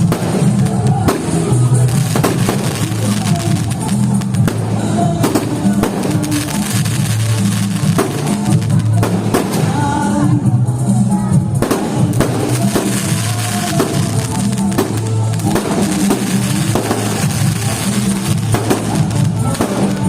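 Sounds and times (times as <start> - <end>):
heavy drum beat: 0.0 - 10.4, 11.4 - 20.0.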